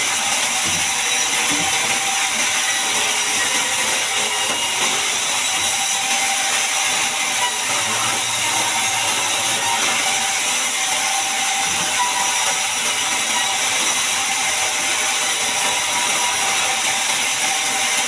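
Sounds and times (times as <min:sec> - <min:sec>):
band saw cutting log: 0:00.0 - 0:18.0.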